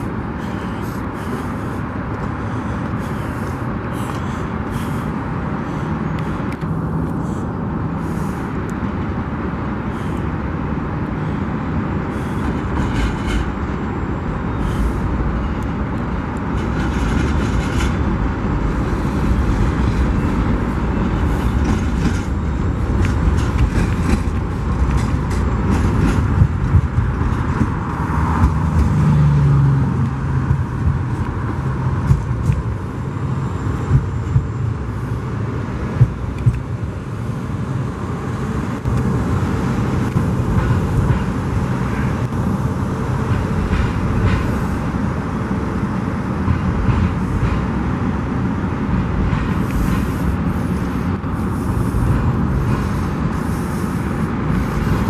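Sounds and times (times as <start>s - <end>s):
freight train rumbling: 0.0s - 55.0s
low drone: 0.0s - 55.0s
train clanks and clicks: 0.0s - 55.0s.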